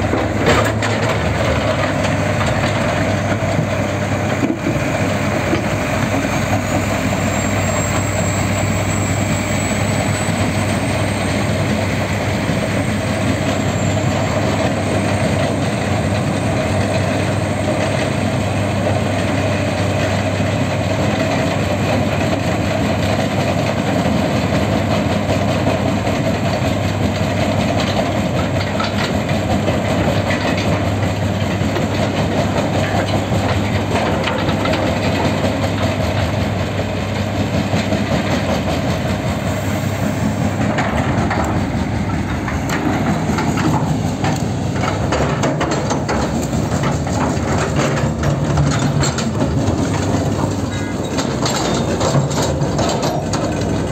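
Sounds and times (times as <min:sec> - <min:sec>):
crusher and excavator humming: 0:00.0 - 0:53.9.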